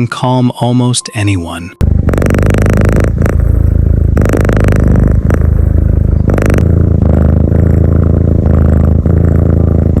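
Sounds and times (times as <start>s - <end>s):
cat purring loudly: 1.8s - 10.0s.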